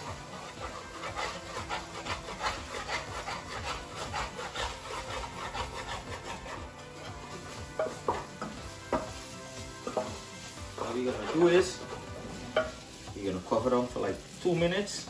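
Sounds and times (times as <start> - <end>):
utensil scraping frying pan: 0.0 - 15.0.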